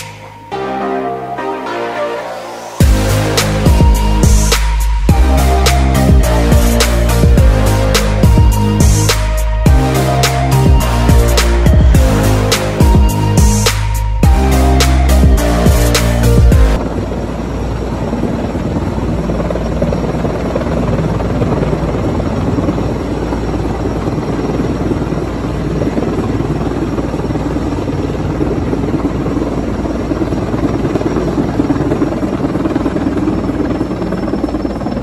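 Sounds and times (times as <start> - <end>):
helicopter hovering: 0.0 - 35.0.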